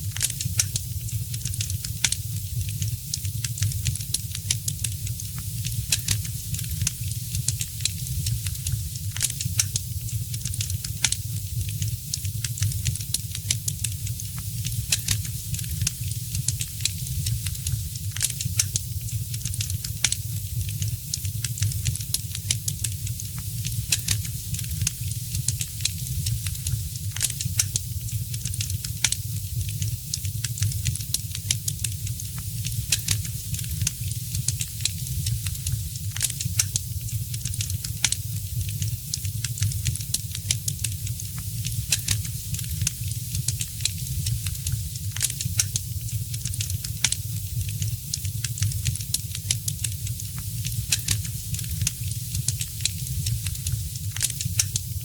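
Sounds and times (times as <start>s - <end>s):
fire popping and snapping: 0.0s - 55.0s
wood fire crackling: 0.0s - 55.0s.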